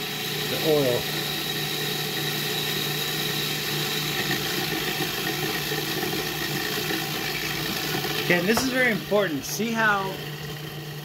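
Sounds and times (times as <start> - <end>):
food processor motor running: 0.0 - 11.0.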